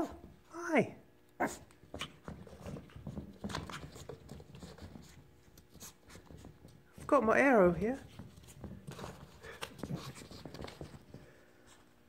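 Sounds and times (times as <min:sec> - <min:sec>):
puppies scampering on carpet: 0:01.4 - 0:12.0.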